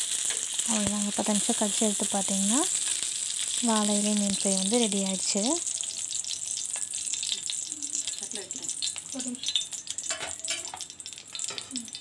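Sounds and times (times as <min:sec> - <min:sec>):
crackling pops of frying: 0:00.0 - 0:12.0
fish sizzling in oil: 0:00.0 - 0:12.0.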